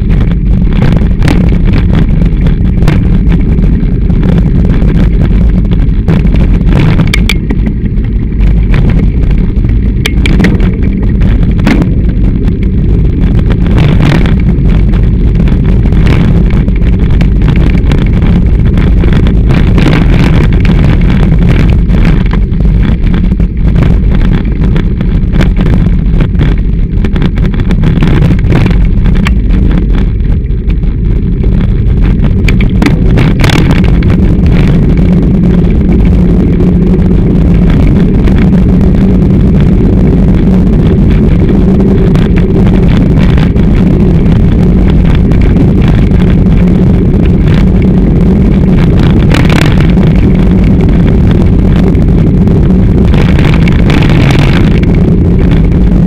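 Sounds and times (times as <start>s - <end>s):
bike rumbling and rattling: 0.0s - 56.0s
wind buffeting microphone: 0.0s - 56.0s.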